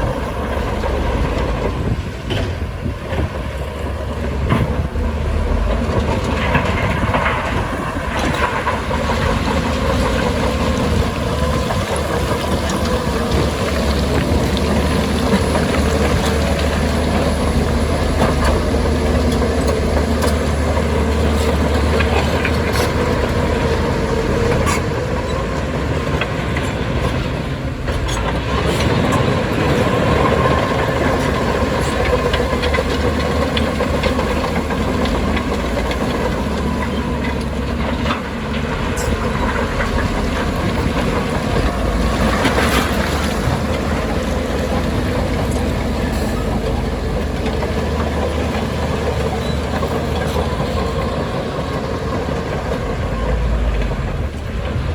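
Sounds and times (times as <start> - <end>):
heavy diesel machinery running: 0.0 - 54.9.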